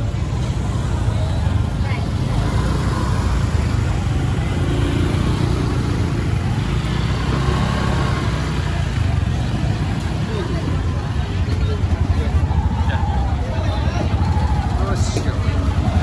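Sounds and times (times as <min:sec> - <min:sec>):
motor vehicle traffic rumble: 0:00.0 - 0:16.0.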